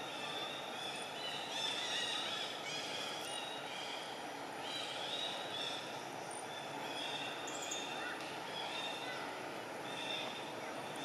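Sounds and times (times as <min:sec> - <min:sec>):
steady forest hiss: 0:00.0 - 0:11.0.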